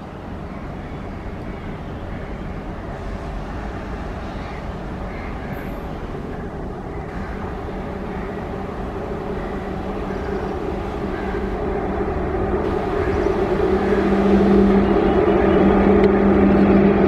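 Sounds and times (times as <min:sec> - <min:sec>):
low steady hum: 0:00.0 - 0:17.0
train wheels rumbling: 0:00.0 - 0:17.0.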